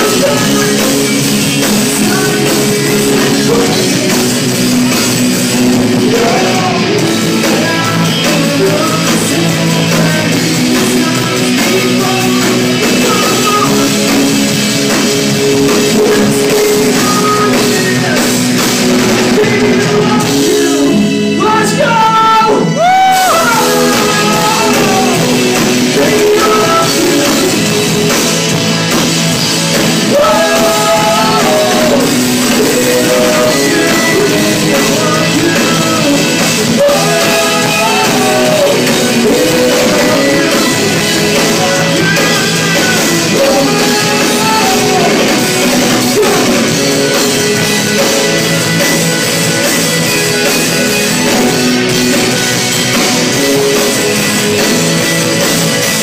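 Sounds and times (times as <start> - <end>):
person singing: 0.0 - 48.3
drums: 0.0 - 56.0
electric guitars: 0.0 - 56.0.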